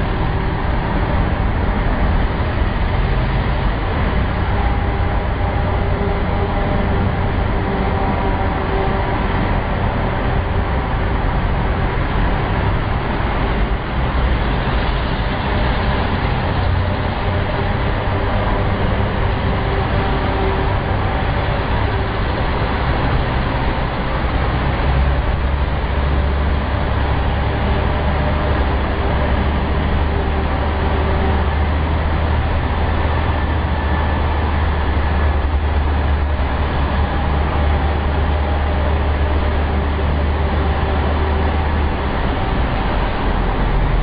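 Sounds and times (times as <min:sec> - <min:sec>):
echoing road noise: 0:00.0 - 0:44.0
heavy vehicle engine drone: 0:00.0 - 0:44.0.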